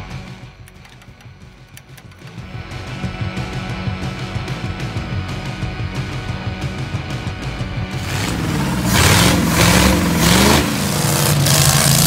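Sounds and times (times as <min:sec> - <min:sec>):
background music with driving beat: 0:00.0 - 0:12.0.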